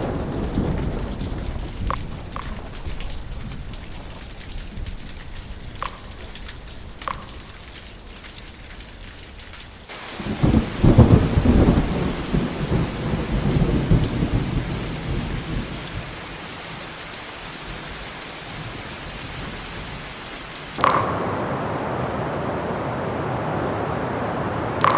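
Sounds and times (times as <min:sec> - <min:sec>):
thunder rumbling: 0:00.0 - 0:07.5, 0:09.9 - 0:24.9
rain falling: 0:00.0 - 0:24.9.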